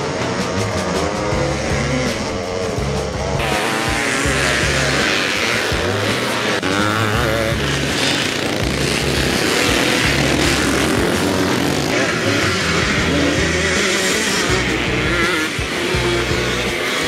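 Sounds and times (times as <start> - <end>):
background music: 0.0 - 17.0
motocross bike engines revving: 0.0 - 17.0.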